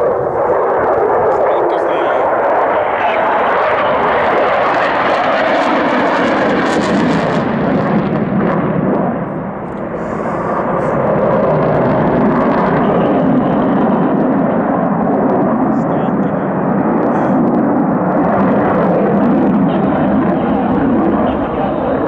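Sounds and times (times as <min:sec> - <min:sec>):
aircraft flying past: 0:00.0 - 0:22.0.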